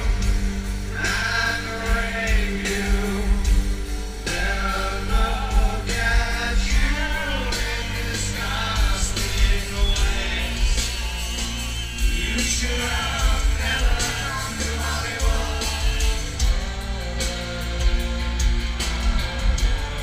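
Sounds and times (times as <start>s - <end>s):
live rock band playing: 0.0s - 20.0s
voices singing: 0.9s - 20.0s.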